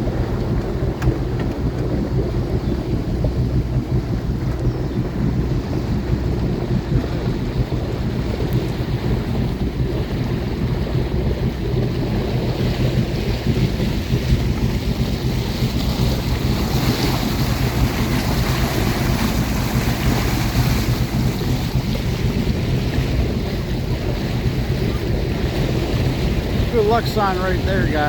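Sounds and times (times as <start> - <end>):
boat engine droning: 0.0 - 28.0
water noise: 0.0 - 28.0
wind on microphone: 0.0 - 28.0.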